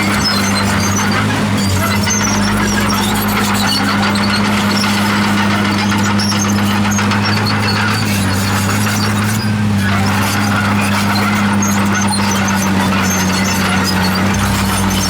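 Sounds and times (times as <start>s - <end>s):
heavy diesel engine running: 0.0s - 15.0s
metal squeaks and clinks: 0.0s - 15.0s.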